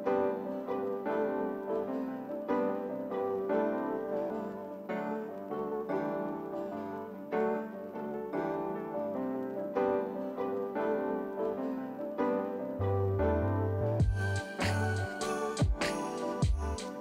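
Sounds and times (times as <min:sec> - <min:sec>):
gentle piano tune: 0:00.0 - 0:17.0.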